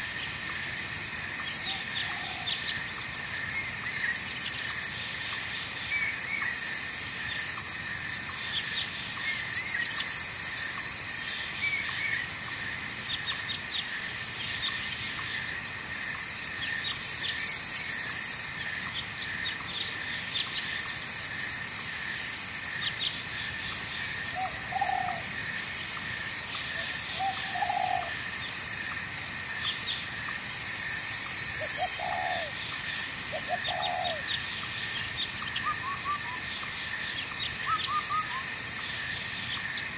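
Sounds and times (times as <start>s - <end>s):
insects and crickets trilling: 0.0s - 39.9s.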